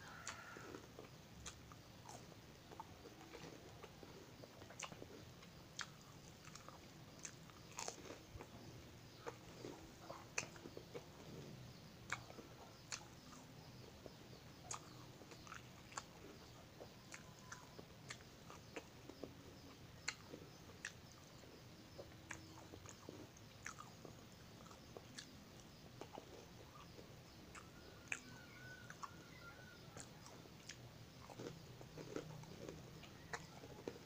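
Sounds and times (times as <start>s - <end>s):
chewing crisp crackers: 0.0s - 34.0s.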